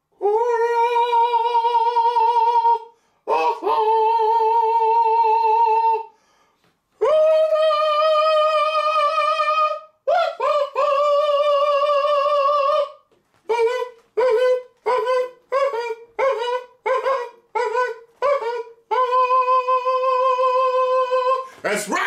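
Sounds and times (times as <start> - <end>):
man singing high held notes: 0.1 - 6.1, 7.0 - 22.0.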